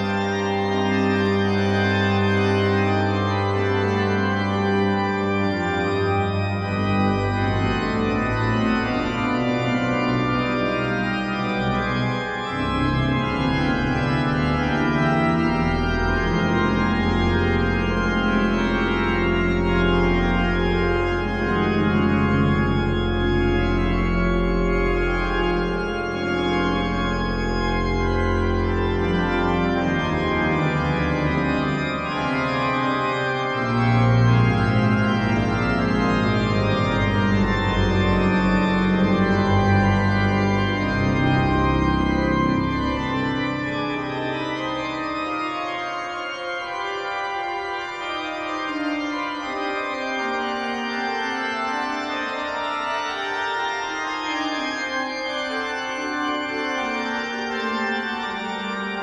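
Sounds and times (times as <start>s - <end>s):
church organ chords: 0.0s - 59.0s
deep organ bass notes: 0.0s - 59.0s.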